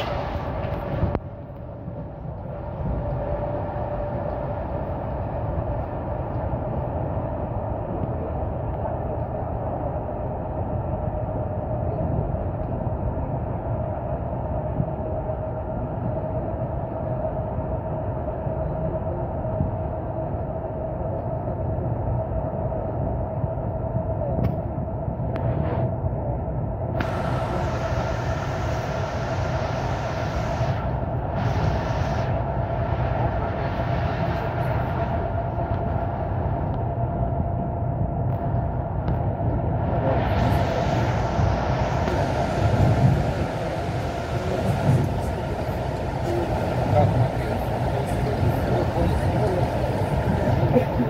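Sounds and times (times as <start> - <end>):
train running gear rumble: 0.0 - 51.0
train whine: 0.0 - 51.0.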